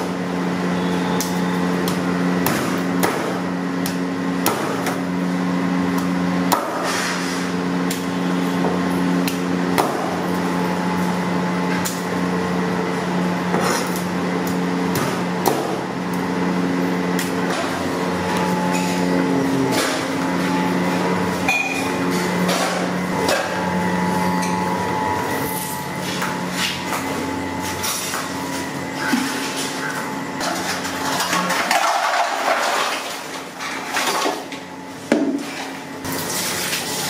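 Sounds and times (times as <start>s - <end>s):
machine hum: 0.0s - 37.0s.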